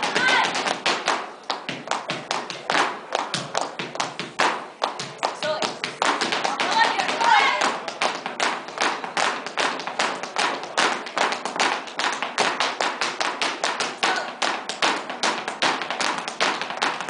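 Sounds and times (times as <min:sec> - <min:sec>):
dance shoes striking wooden floor: 0:00.0 - 0:17.0.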